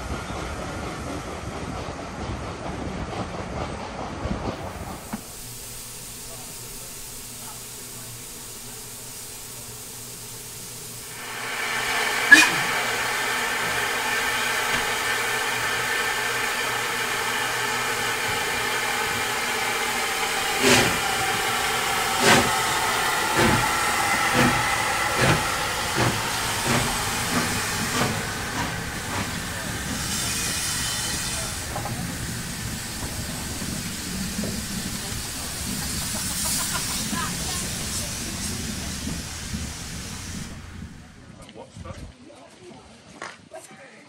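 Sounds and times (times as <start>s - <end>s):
steam locomotive exhaust chuffs: 0.0s - 41.3s
steam hissing: 4.4s - 41.3s.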